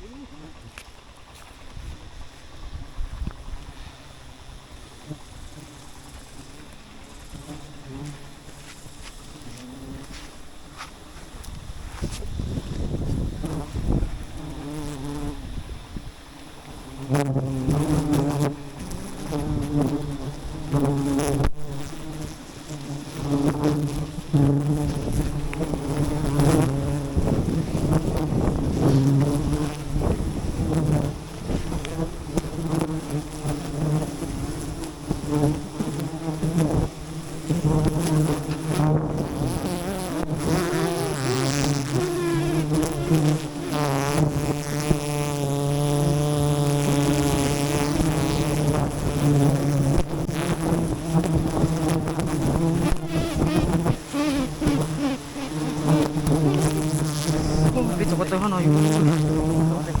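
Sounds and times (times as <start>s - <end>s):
honeybees buzzing: 0.0s - 60.0s
single bee buzzing close: 3.1s - 60.0s.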